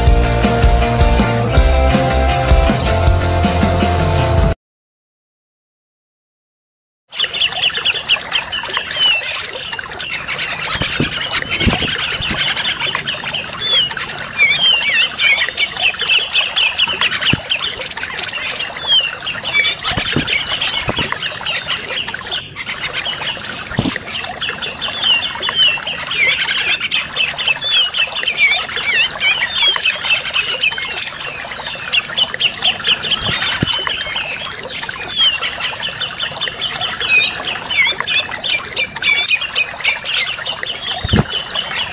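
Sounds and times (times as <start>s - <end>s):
small birds chattering and trilling: 7.1s - 41.9s
running water: 7.2s - 41.9s.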